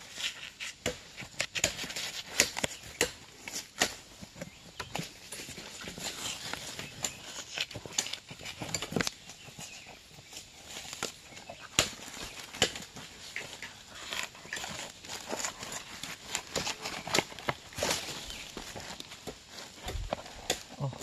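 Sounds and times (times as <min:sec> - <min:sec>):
footsteps on rough path: 0:00.0 - 0:21.0.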